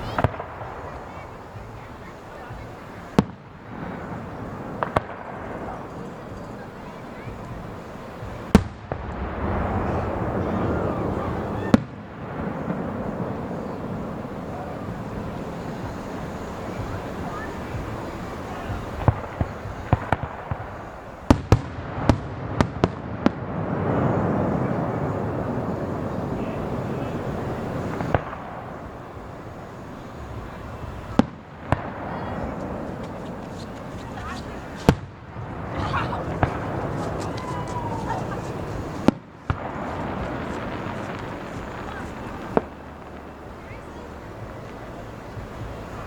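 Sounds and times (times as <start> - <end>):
fireworks bangs: 0.0 - 46.0
fireworks crack: 0.0 - 46.0
rumbling wash of noise: 0.0 - 46.0.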